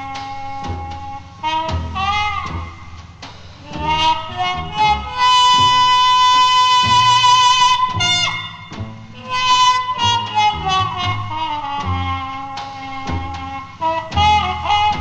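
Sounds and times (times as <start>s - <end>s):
jazz lead instrument bent notes: 0.0s - 15.0s
low bass notes: 0.0s - 15.0s.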